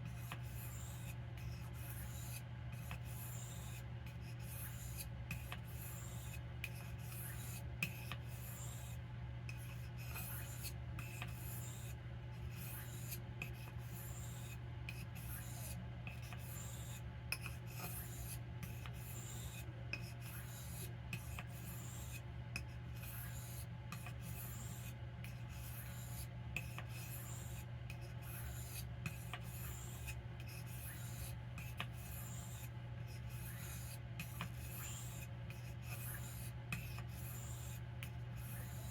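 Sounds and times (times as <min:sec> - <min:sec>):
knife scraping on sharpening stone: 0:00.0 - 0:37.8, 0:38.4 - 0:38.9.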